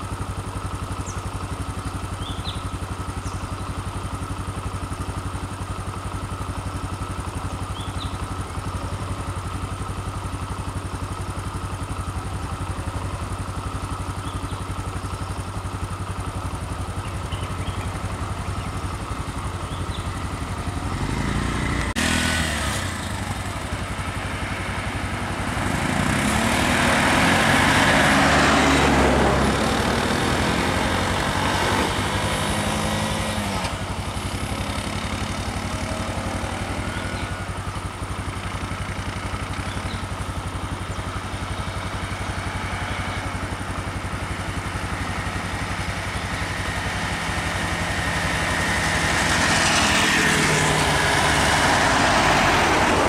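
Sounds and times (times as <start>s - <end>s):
vehicle engine idling: 0.0s - 53.0s
auto-rickshaw driving past: 6.0s - 53.0s.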